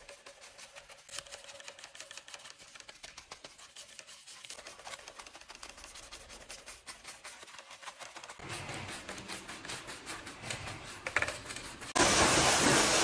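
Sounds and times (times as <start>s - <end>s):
brush scrubbing a wheel: 0.0s - 13.0s.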